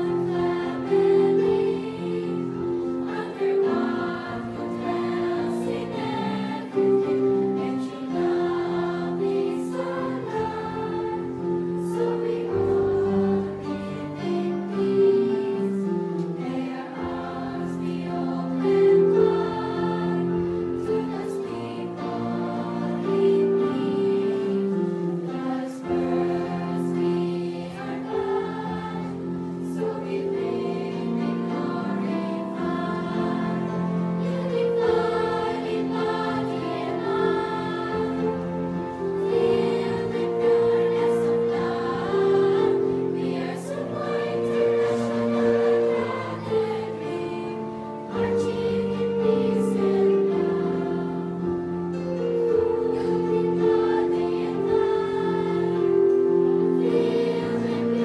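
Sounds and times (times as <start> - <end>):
choir singing a hymn: 0.0 - 58.0
musical accompaniment: 0.0 - 58.0.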